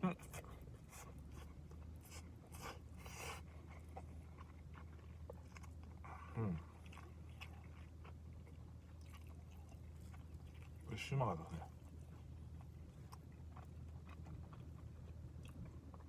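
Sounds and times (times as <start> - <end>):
person chewing food: 0.2 - 10.9, 11.6 - 16.0.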